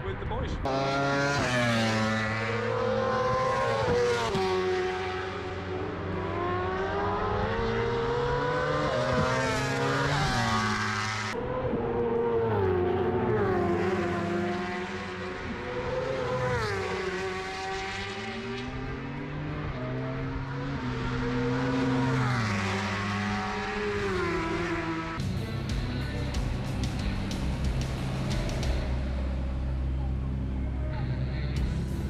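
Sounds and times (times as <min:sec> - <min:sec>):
motorbike engines at high revs: 0:00.6 - 0:32.0.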